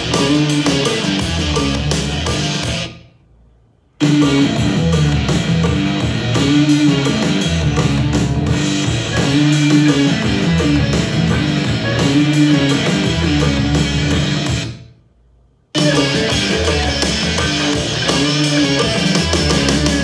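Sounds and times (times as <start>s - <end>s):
instrumental rock music: 0.0s - 3.0s, 4.0s - 14.9s, 15.7s - 20.0s.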